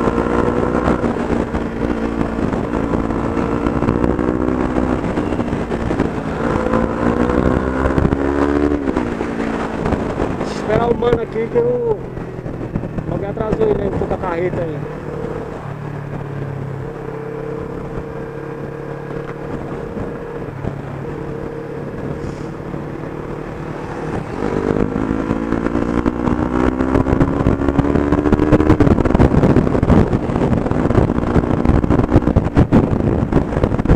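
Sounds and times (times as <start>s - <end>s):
motorcycle engine accelerating: 0.0s - 33.9s
wind buffeting microphone: 0.0s - 33.9s.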